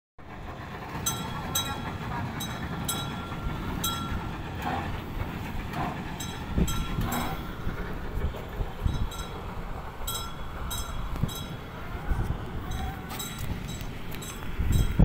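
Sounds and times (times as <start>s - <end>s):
tram rumbling on rails: 0.2s - 15.0s.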